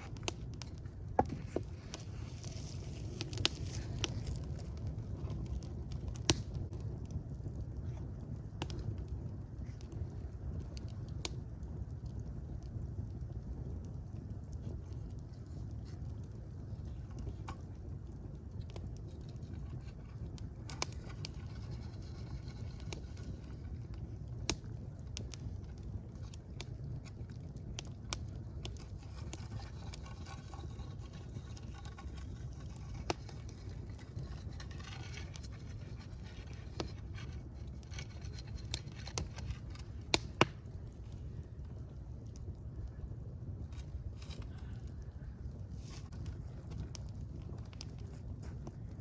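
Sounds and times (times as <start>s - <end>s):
fire crackling and popping: 0.0s - 49.0s.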